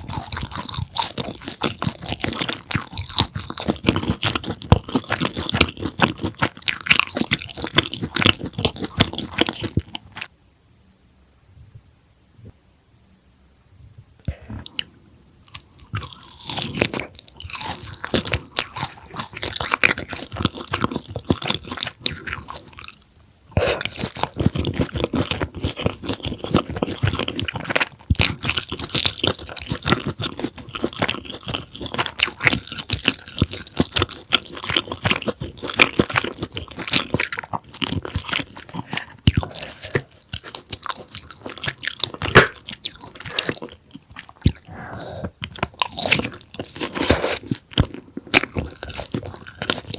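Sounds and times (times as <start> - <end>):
crunching and chewing food: 0.0 - 10.3, 14.2 - 49.9.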